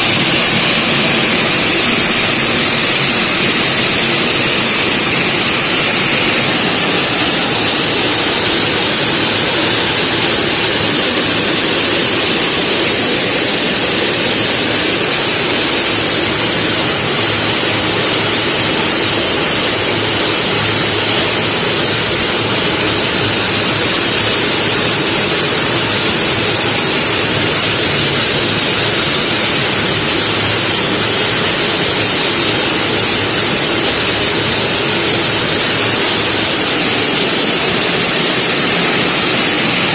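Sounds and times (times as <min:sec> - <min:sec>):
shelling machine running: 0:00.0 - 0:39.9.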